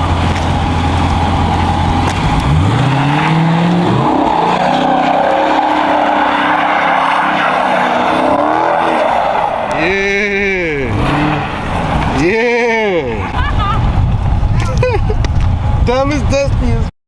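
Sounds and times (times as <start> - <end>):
car engine revving: 0.0 - 14.5
tyres spinning rushing noise: 0.0 - 14.6.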